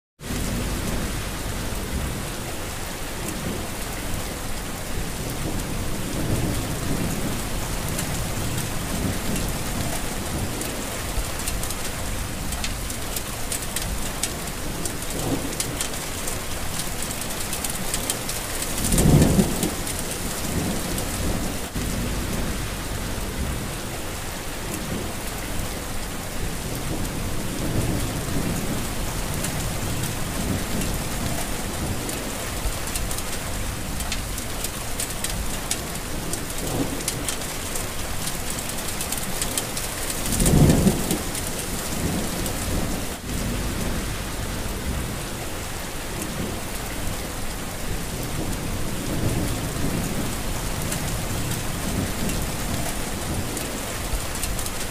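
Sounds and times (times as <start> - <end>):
heavy rain falling: 0.2 - 54.9
thunder rumbling: 0.2 - 54.9.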